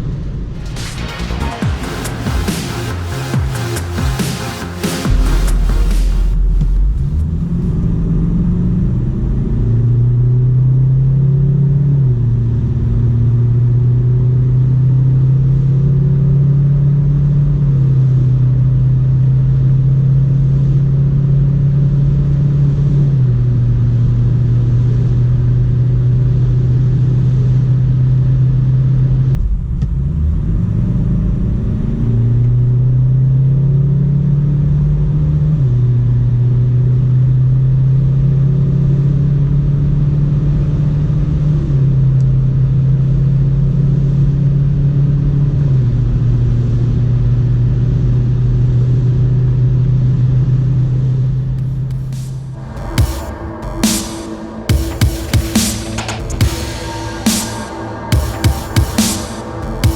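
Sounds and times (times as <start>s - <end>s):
diesel engine accelerating: 0.0s - 59.9s.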